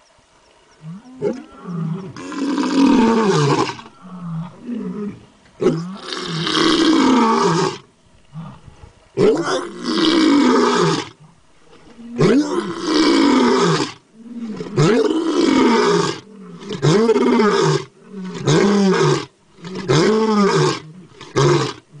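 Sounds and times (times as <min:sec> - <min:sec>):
tiger roaring: 0:00.8 - 0:21.8.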